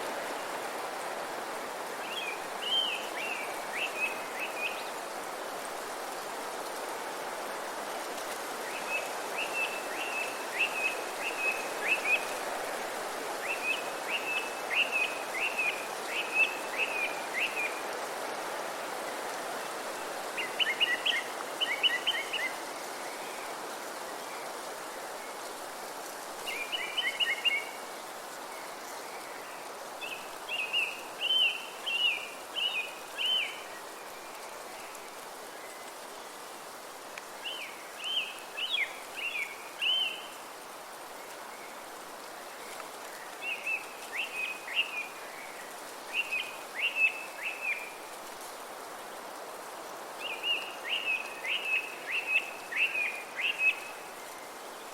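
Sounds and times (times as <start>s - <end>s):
songbird chirping: 0.0s - 5.2s, 8.2s - 18.4s, 20.0s - 24.7s, 25.3s - 40.6s, 41.2s - 54.9s
wind through trees: 0.0s - 54.9s.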